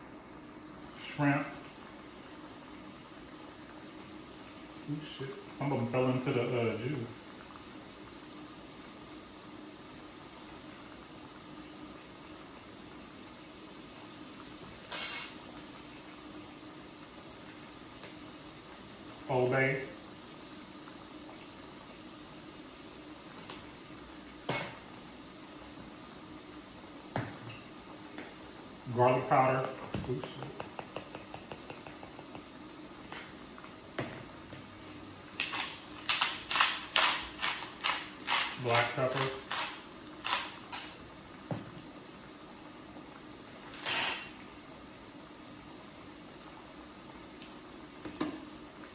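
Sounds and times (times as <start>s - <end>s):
broth simmering: 0.0s - 48.9s
food sizzling with crackling pops: 0.0s - 48.9s.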